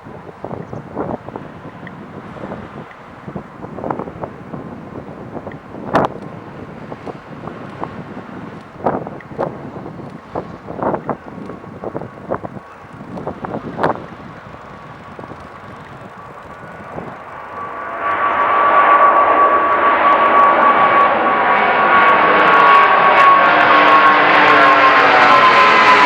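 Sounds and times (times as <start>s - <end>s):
airliner engines overhead: 0.0s - 26.0s
falling whine: 0.0s - 26.0s.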